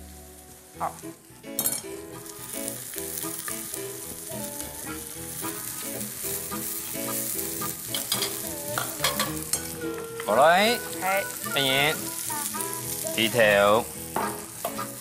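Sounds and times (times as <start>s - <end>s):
background music: 0.0s - 15.0s
shrimp sizzling in hot oil: 0.0s - 15.0s.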